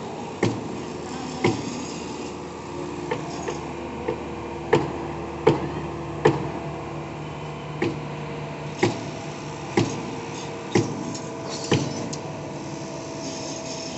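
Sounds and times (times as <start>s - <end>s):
diesel engine drone: 0.0s - 13.9s.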